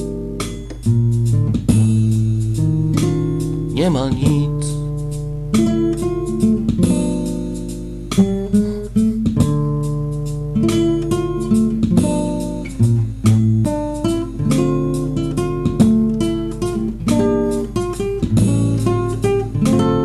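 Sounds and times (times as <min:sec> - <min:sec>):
acoustic guitar strumming and picking: 0:00.0 - 0:20.0.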